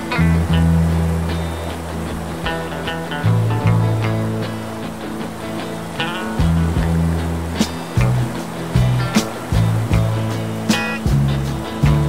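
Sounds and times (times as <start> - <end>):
held bass note: 0.0 - 4.6, 6.1 - 12.0
plucked notes: 0.0 - 12.0.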